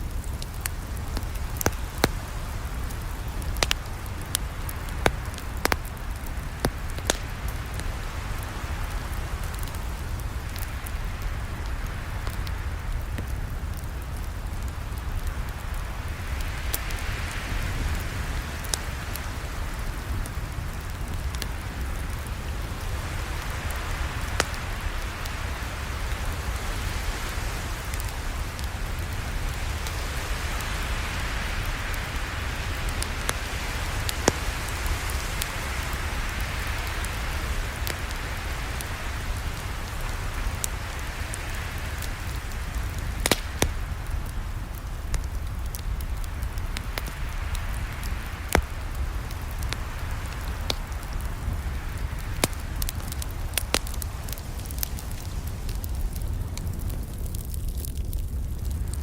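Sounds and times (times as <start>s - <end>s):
burning wood popping: 0.0s - 17.0s, 17.8s - 59.0s
campfire crackling: 0.0s - 59.0s.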